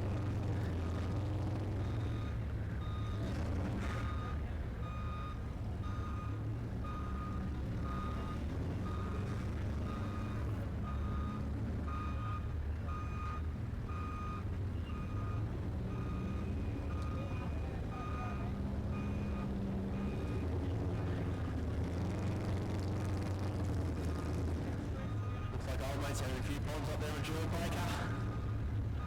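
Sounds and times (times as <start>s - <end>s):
reversing alarm beeping: 1.8s - 21.2s, 25.0s - 29.0s.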